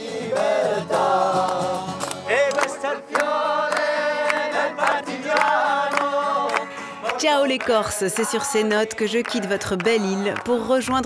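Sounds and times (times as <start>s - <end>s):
group of voices singing: 0.0s - 10.8s
acoustic guitar: 0.0s - 11.0s.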